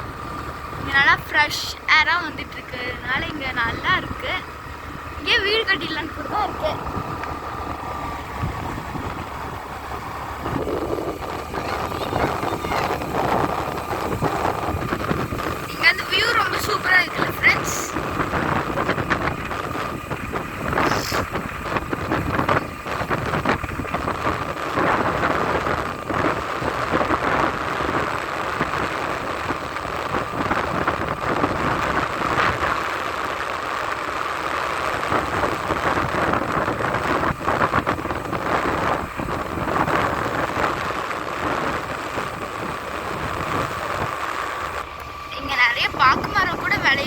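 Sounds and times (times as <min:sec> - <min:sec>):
vehicle rushing noise: 0:00.0 - 0:47.0
wind buffeting microphone: 0:00.0 - 0:47.0.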